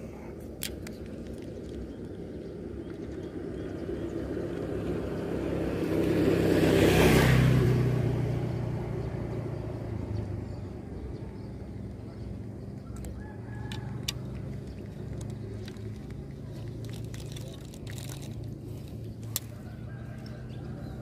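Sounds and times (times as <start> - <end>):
vehicle passing by: 1.9 - 21.0.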